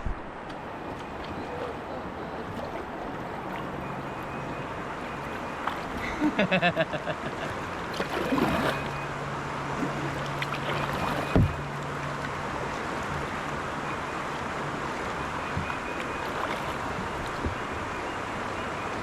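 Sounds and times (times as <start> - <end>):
low steady hum: 0.0 - 19.0
creek water running: 0.1 - 19.0.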